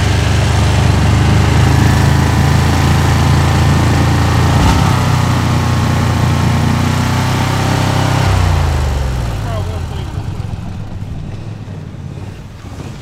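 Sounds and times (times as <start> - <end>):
small boat motor running: 0.0 - 13.0.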